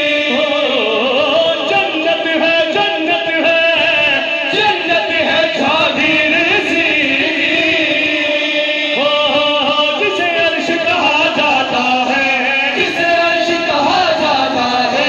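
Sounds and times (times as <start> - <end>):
men singing devotional chorus: 0.0 - 15.0.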